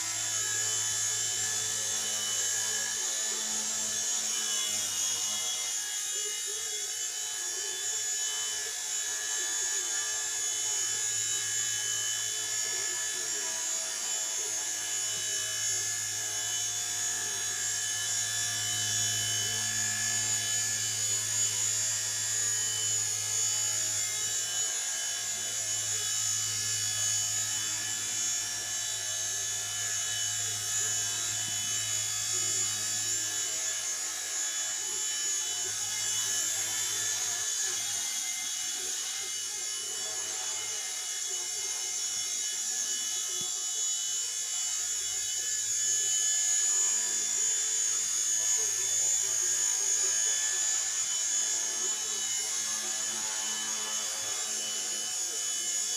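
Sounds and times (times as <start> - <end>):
toy helicopter rotor whine: 0.0 - 55.9.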